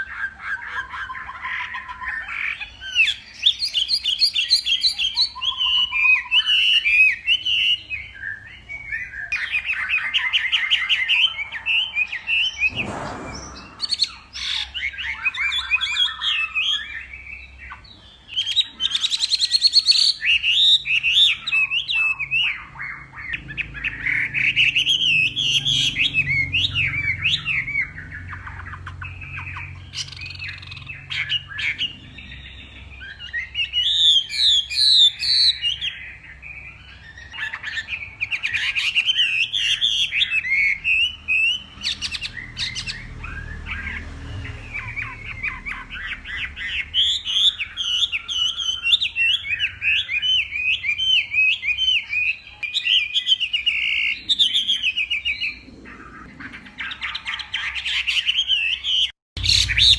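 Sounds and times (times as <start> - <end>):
bird singing warbling song: 0.0 - 59.9.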